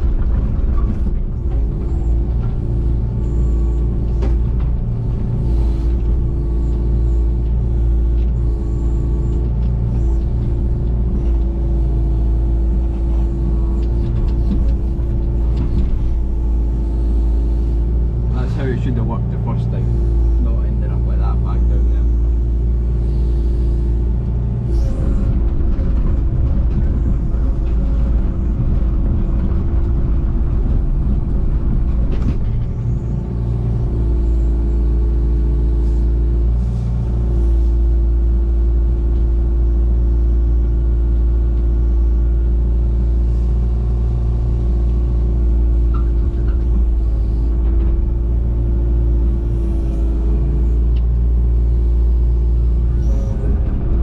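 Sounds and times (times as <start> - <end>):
digger engine running: 0.0 - 54.0.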